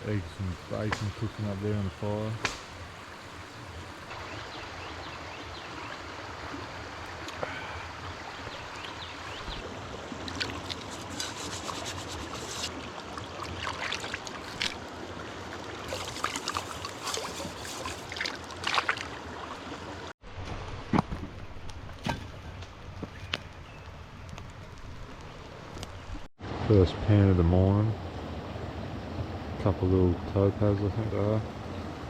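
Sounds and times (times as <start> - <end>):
river water running: 0.0 - 20.1, 25.3 - 32.0.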